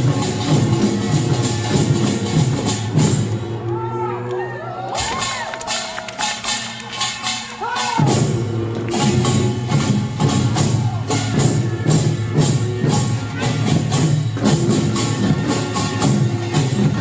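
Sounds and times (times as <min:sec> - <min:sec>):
drums beating: 0:00.0 - 0:03.8, 0:04.9 - 0:17.0.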